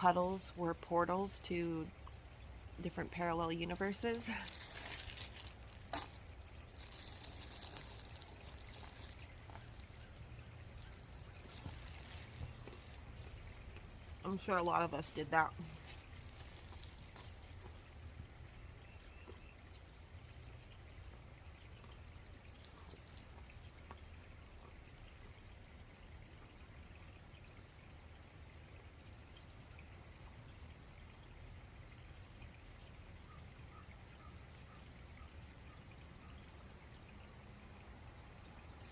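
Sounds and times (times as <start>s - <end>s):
low steady rumble: 0.0s - 38.9s
trickle of flowing water: 0.0s - 38.9s
water drips: 0.0s - 38.9s.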